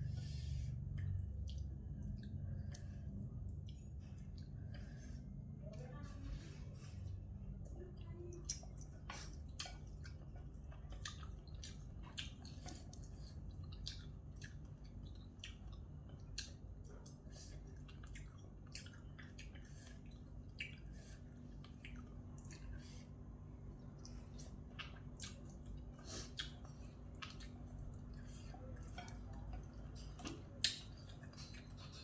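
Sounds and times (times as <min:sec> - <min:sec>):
steady low hum: 0:00.0 - 0:32.0
person chewing wetly: 0:00.1 - 0:05.5, 0:07.1 - 0:32.0.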